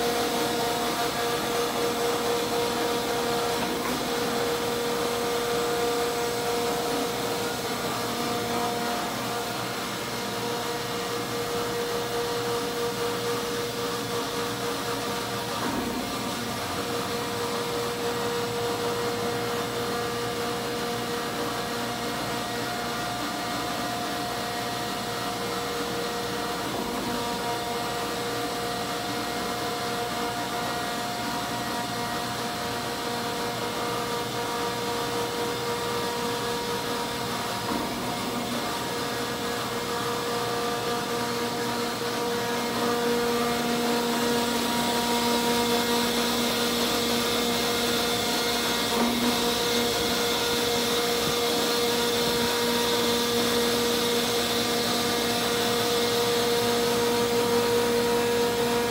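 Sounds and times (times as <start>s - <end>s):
grinder motor hum and whine: 0.0s - 58.9s.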